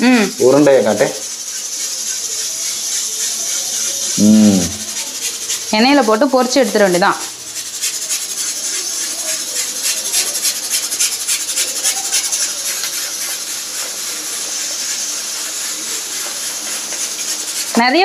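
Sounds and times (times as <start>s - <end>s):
deep-frying sizzle with crackles: 0.0s - 18.0s.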